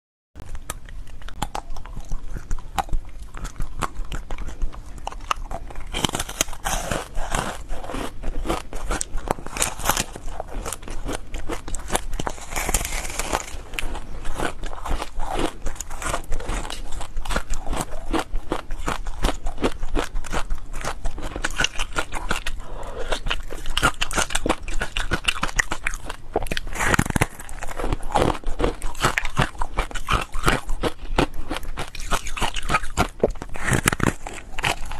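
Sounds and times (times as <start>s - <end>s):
crunchy ice being chewed: 0.4s - 34.9s.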